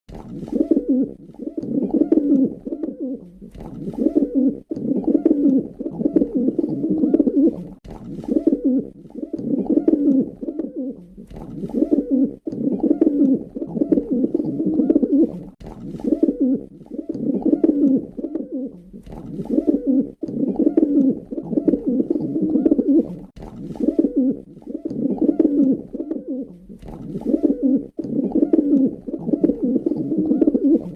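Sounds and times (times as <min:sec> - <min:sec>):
pigeon cooing: 0:00.2 - 0:30.9.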